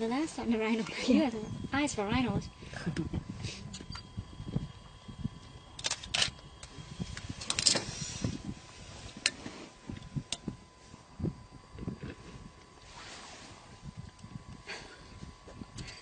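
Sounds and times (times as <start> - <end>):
low rumbling background: 0.0 - 16.0.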